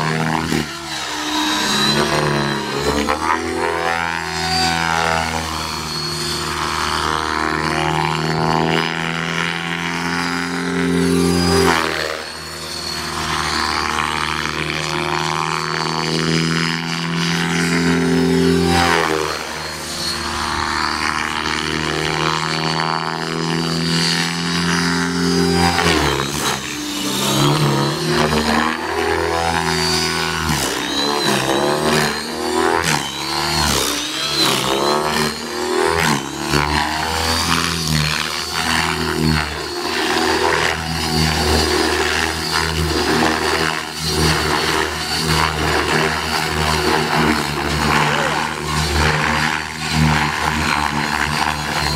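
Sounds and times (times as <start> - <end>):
helicopter rotor drone: 0.0 - 51.9.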